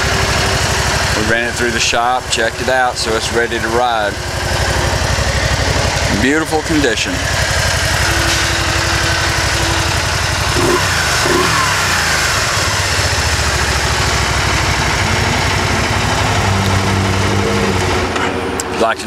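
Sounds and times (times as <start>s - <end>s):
motorcycle engine idling: 0.0s - 18.2s.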